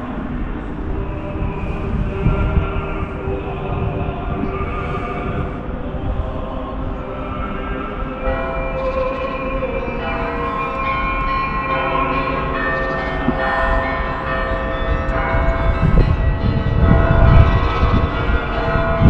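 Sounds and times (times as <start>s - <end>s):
heavy low rumbles: 0.0s - 10.4s, 13.1s - 19.0s
church bells ringing: 0.0s - 19.0s.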